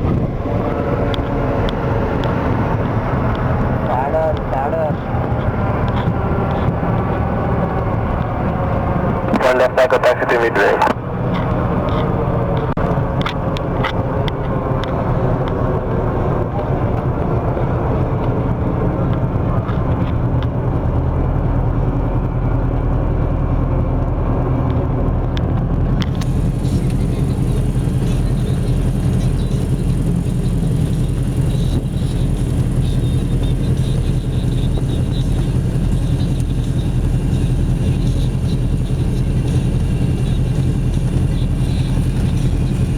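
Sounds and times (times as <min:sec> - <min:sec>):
aircraft piston engines running: 0:00.0 - 0:42.9.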